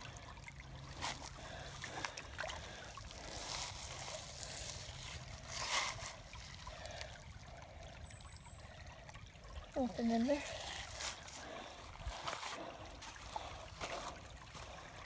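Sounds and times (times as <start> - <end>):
water trickling over rocks: 0.0 - 15.0.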